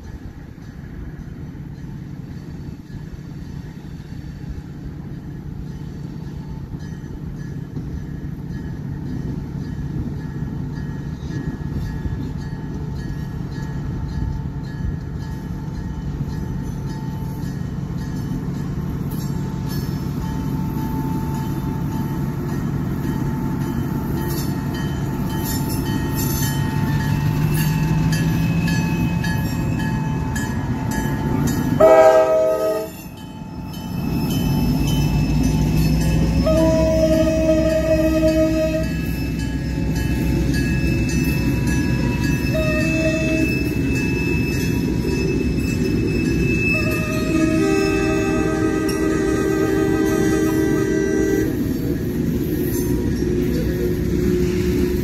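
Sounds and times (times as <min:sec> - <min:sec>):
diesel locomotive engine rumble: 0:00.0 - 0:55.0
train wheels clattering on rails: 0:00.0 - 0:55.0.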